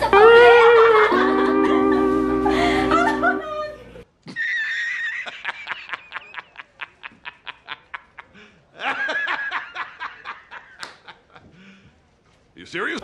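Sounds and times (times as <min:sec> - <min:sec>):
man laughing hard: 0:00.0 - 0:03.6, 0:04.3 - 0:11.4.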